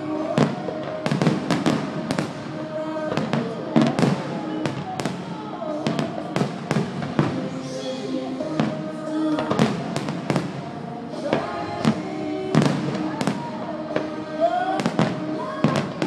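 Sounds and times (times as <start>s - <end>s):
fireworks bursting with sharp bangs: 0.0s - 16.0s
music playing: 0.0s - 16.0s.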